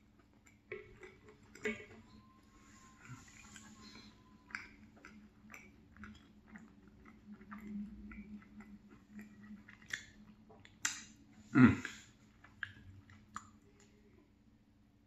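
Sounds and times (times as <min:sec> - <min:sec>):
person chewing wet smacks: 0:00.0 - 0:02.2, 0:03.0 - 0:14.3.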